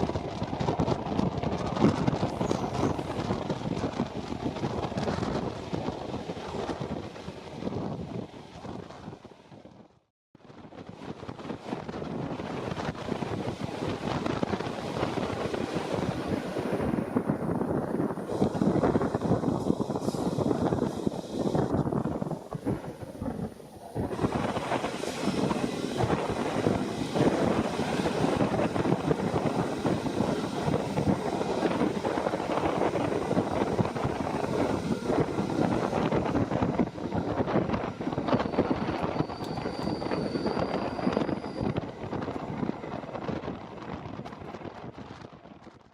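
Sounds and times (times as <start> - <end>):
moving train running noise: 0.0 - 45.9
wind buffeting microphone: 0.0 - 45.9.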